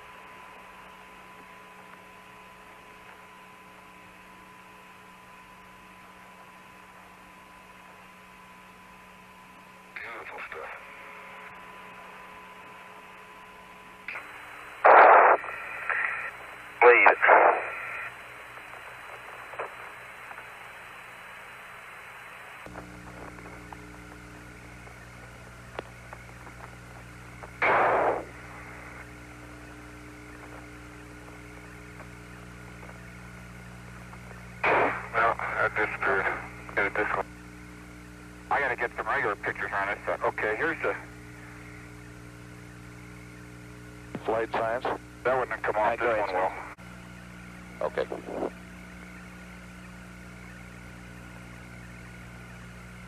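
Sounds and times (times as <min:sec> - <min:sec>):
low hum: 0:00.0 - 0:53.0
radio static hiss: 0:00.0 - 0:53.0.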